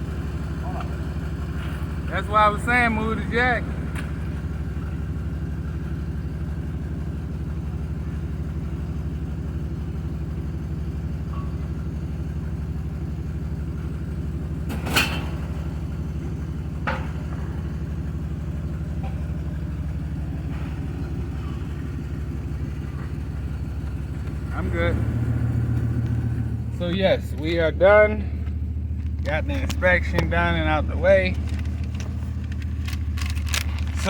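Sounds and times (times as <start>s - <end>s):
pickup engine idling: 0.0s - 34.0s.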